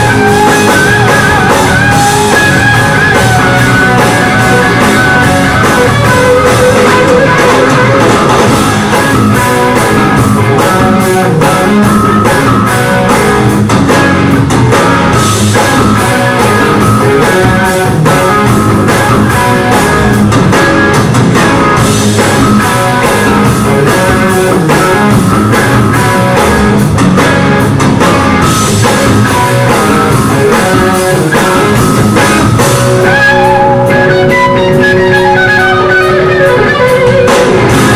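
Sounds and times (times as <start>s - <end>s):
electric guitar sustained notes: 0.0s - 37.9s
rock band playing live: 0.0s - 37.9s.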